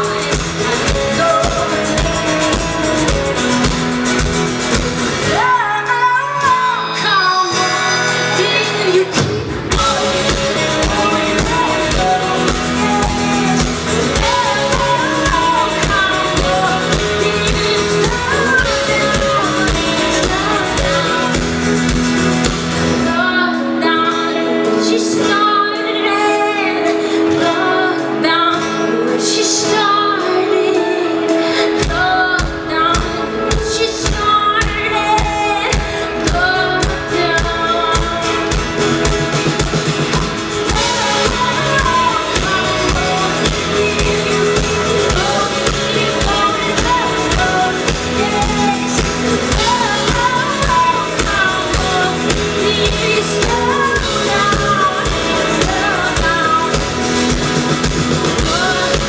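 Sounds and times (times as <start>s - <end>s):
live pop-rock band: 0.0s - 59.0s
woman singing: 0.0s - 59.0s.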